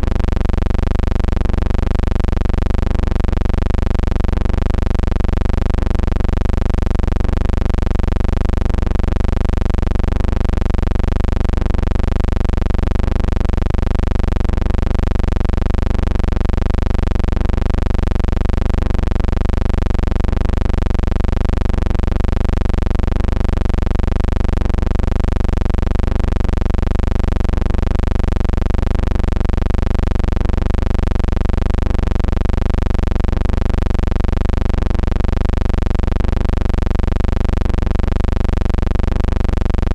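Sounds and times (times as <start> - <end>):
loud pulsing low hum: 0.0 - 39.9.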